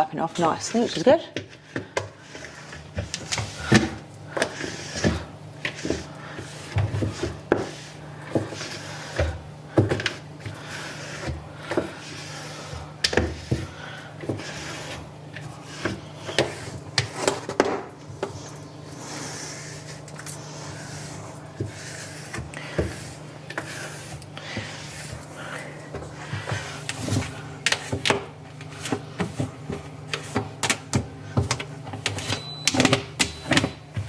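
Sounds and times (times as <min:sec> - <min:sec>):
steady low hum: 0:00.0 - 0:34.0
cloth wiping shelves: 0:02.2 - 0:32.5.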